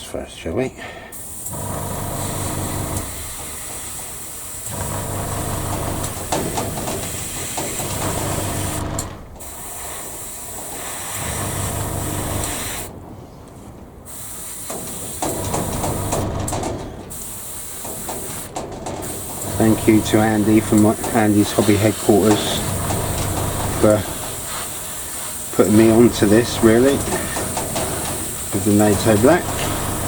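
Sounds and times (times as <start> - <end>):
air compressor hum: 0.8 - 13.1, 13.9 - 30.0
airbrush air hiss: 1.1 - 12.9, 14.1 - 16.5, 17.1 - 30.0.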